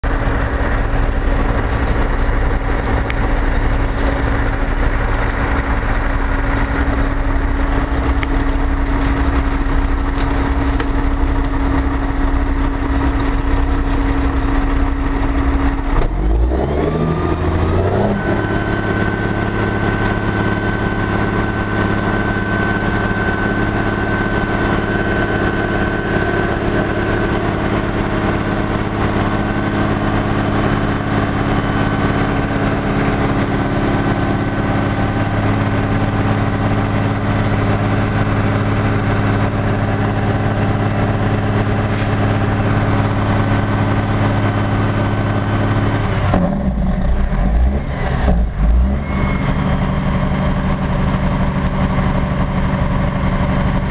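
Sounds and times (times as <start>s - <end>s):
diesel truck engine: 0.0s - 53.9s
hydraulic pump whine: 0.1s - 53.9s.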